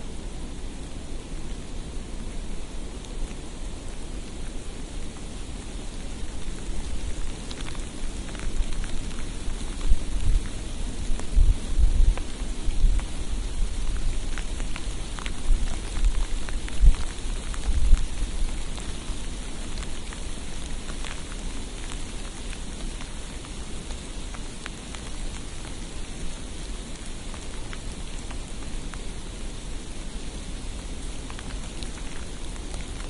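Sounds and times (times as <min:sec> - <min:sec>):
hiss of falling precipitation: 0:00.0 - 0:33.0.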